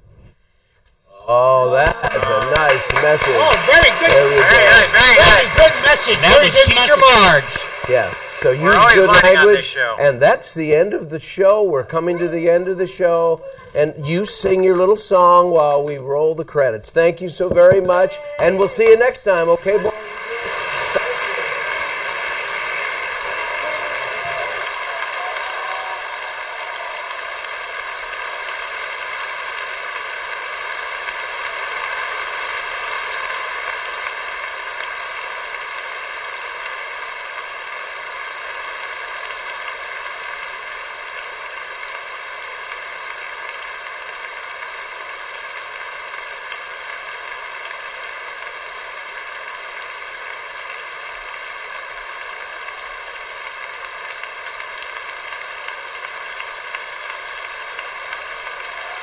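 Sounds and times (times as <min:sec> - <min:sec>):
steady static hiss: 0:00.0 - 0:59.0.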